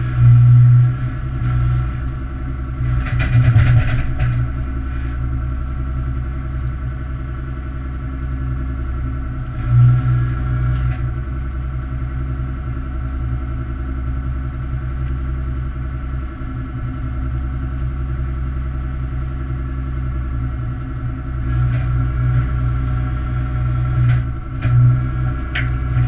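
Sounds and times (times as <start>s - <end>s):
boat engine humming: 0.0s - 21.4s.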